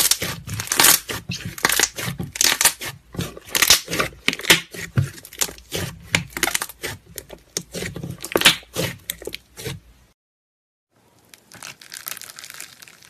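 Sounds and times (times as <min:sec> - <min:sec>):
slime popping and crackling: 0:00.0 - 0:09.8, 0:11.2 - 0:13.0.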